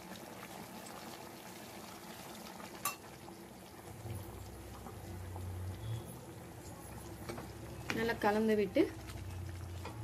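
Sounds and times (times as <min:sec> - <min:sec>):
curry bubbling: 0:00.0 - 0:10.0.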